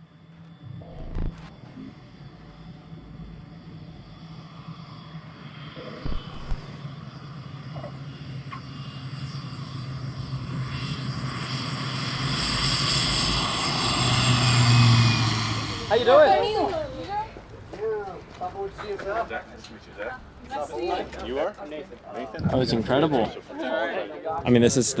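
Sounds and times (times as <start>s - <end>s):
turboprop aircraft engine running: 0.0s - 20.5s.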